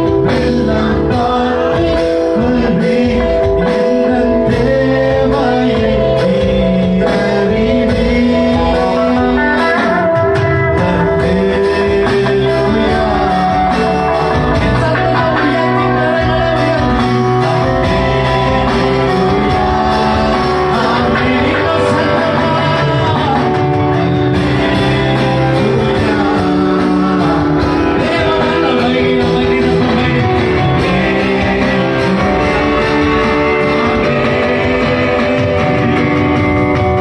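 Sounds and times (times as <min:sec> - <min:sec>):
electronic drum pad: 0:00.0 - 0:37.0
electronic keyboard: 0:00.0 - 0:37.0
man singing into a microphone: 0:00.0 - 0:37.0.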